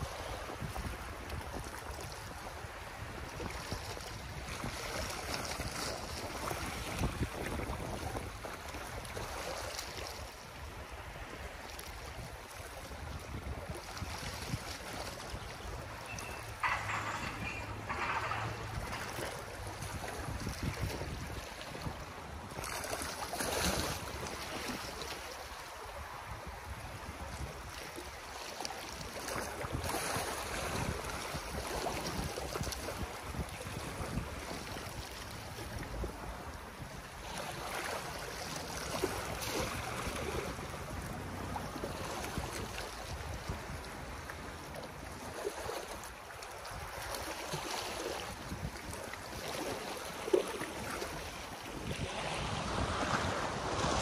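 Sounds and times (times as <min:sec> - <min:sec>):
wind buffeting microphone: 0:00.0 - 0:28.2, 0:29.0 - 0:54.0
waves lapping against concrete: 0:00.0 - 0:54.0.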